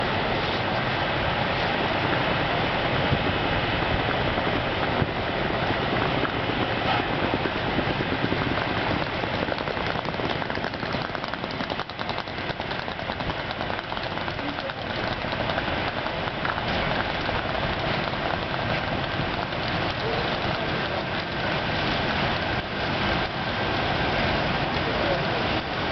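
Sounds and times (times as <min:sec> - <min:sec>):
train wheels rolling on rails: 0:00.0 - 0:25.9.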